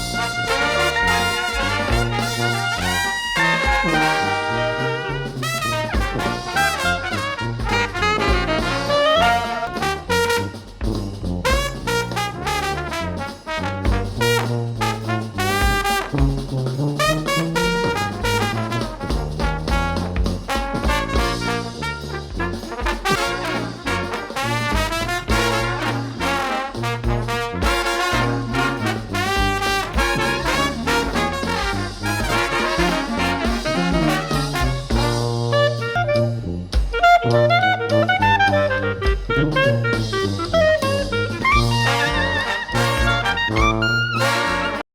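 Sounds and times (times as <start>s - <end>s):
upbeat jazzy brass music: 0.0s - 44.9s.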